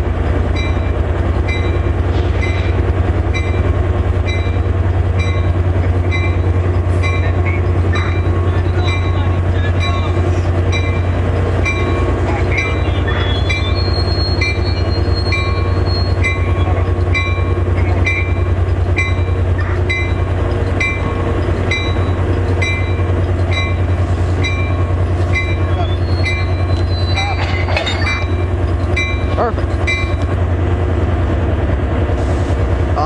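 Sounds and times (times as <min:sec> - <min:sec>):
locomotive diesel engine idling: 0:00.0 - 0:33.0.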